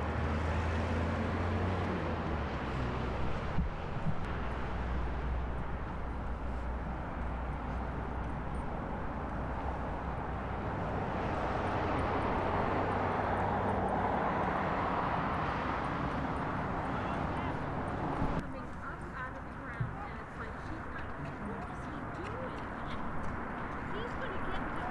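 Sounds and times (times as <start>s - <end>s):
engine humming: 0.0s - 24.9s.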